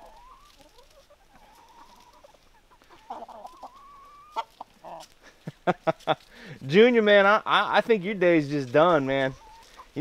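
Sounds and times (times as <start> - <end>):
chickens clucking: 0.0 - 10.0
drawn-out chicken calls: 0.0 - 10.0.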